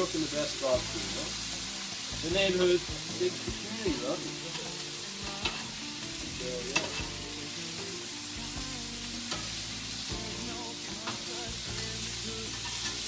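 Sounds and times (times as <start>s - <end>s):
meat sizzling on a hotplate: 0.0s - 13.0s
music playing: 0.0s - 13.0s.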